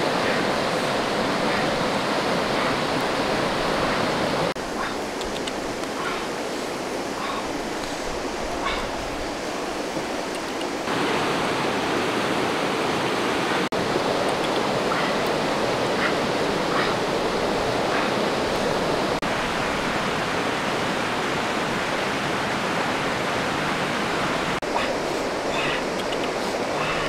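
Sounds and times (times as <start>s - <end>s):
river rushing over rapids: 0.0s - 27.0s.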